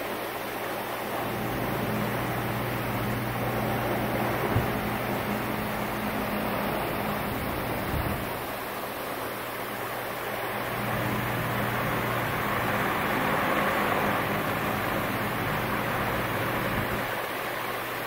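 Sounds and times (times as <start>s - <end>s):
fan air rushing: 0.0s - 18.0s
low electric hum: 0.0s - 18.0s.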